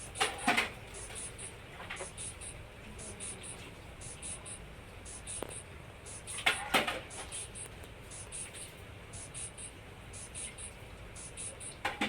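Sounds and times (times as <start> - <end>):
soft high ticking: 0.0 - 11.8
faint low hum: 0.0 - 12.0.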